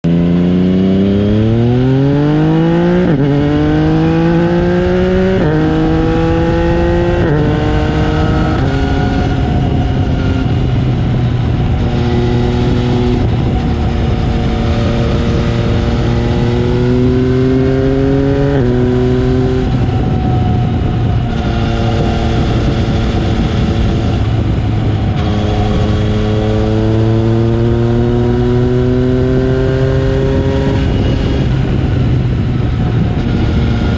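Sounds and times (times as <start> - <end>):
motorcycle engine accelerating through gears: 0.0 - 33.9.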